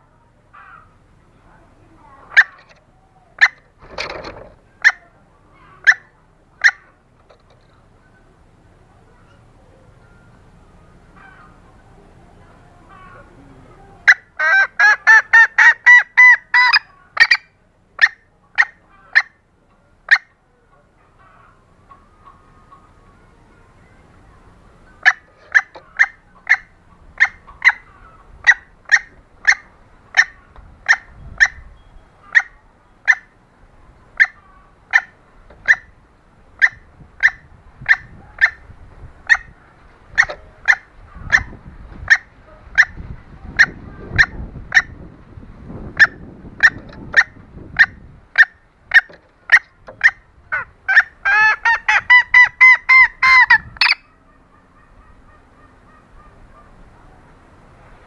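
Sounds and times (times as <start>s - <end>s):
junglefowl calling: 0.0s - 1.2s, 2.0s - 45.1s, 45.9s - 58.0s.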